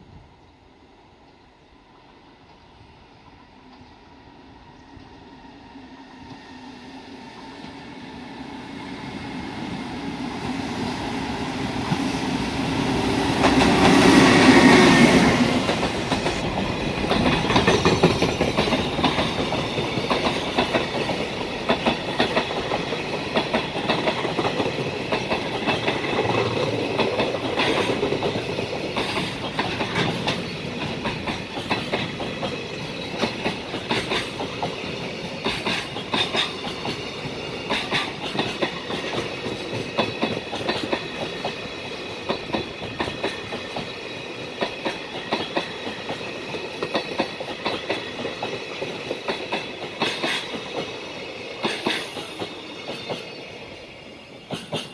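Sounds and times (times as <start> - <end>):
train running noise: 0.0 - 54.9
freight train wheels clacking: 8.8 - 54.9.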